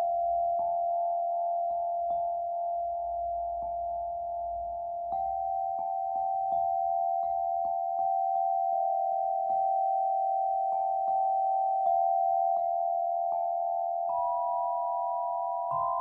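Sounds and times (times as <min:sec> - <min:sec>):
sustained bell-like tones: 0:00.0 - 0:16.0.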